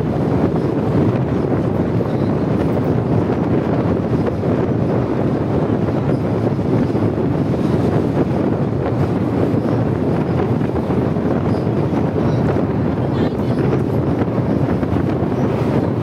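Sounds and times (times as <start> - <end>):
train rumbling over steel bridge: 0.0 - 16.0
wind on microphone: 0.0 - 16.0.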